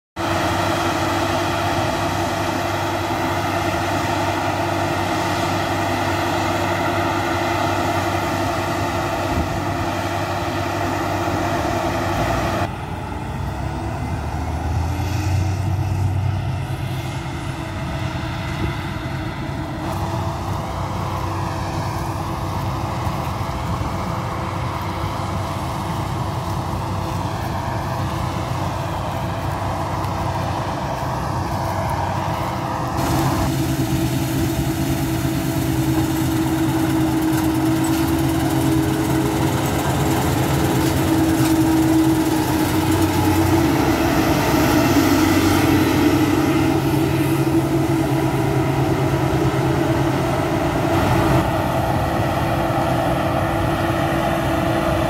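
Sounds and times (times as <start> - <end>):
combine harvester droning: 0.1 - 55.0.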